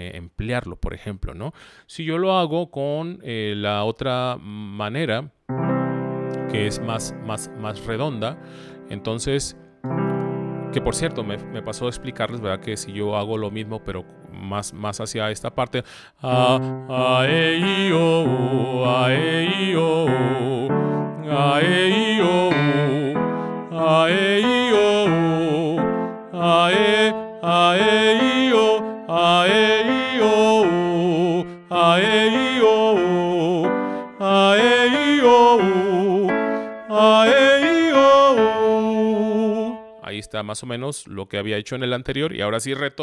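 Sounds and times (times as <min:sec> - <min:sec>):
man singing vocal exercises: 0:00.0 - 0:05.3, 0:06.5 - 0:09.5, 0:10.8 - 0:40.5.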